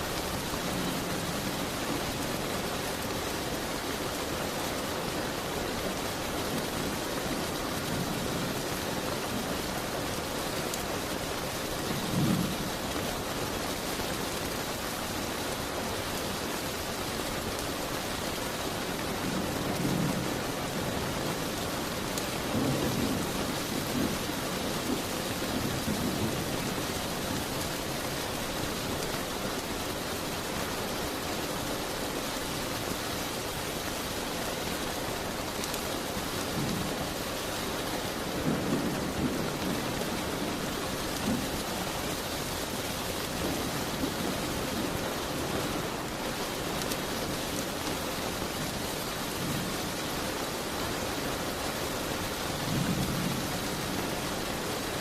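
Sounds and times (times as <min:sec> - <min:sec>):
rain hissing against a window: 0:00.0 - 0:55.0.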